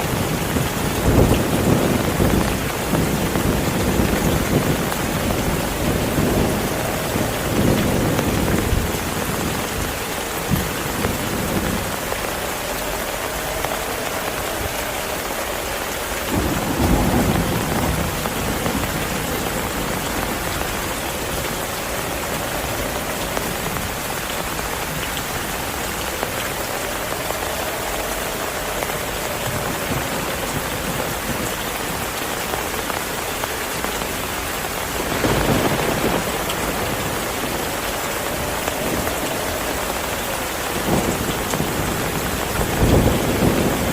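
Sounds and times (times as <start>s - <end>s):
heavy rain falling: 0.0s - 43.9s
thunder rumbles: 0.0s - 43.9s.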